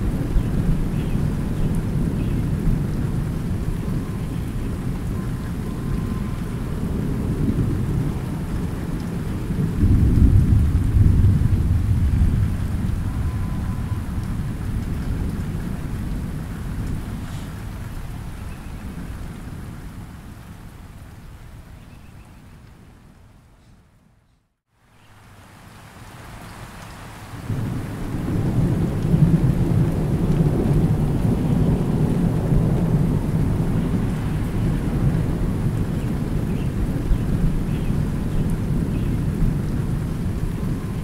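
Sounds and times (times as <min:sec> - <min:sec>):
thunder rumbling: 0:00.0 - 0:21.1, 0:27.4 - 0:41.0
light rain on a pond: 0:00.0 - 0:41.0.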